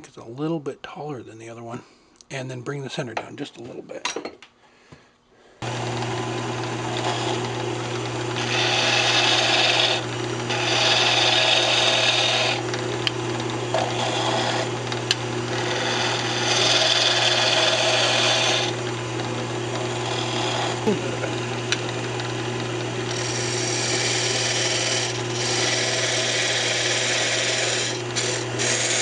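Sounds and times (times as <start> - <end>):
turning tool cutting wood: 5.6 - 29.0
wood lathe humming: 5.6 - 29.0.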